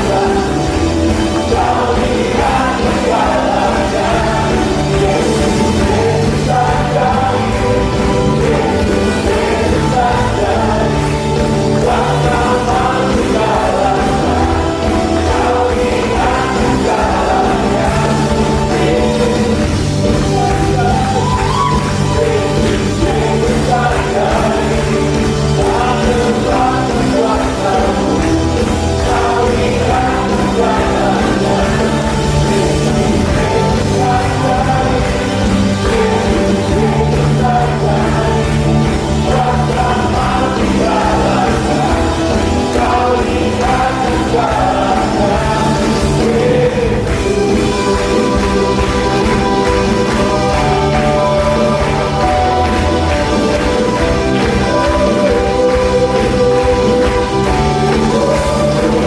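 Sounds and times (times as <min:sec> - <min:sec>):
live worship band playing: 0:00.0 - 0:59.0
singers singing melody: 0:00.0 - 0:59.0.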